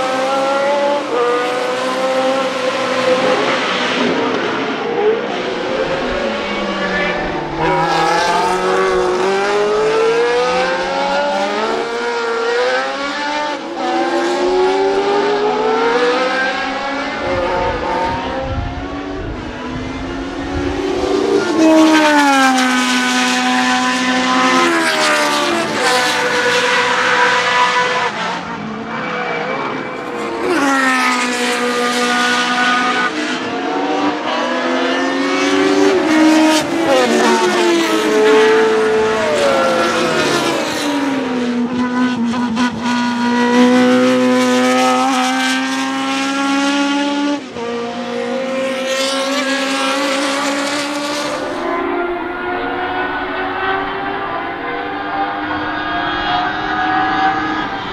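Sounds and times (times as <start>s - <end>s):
racing car engine revving: 0.0s - 57.9s.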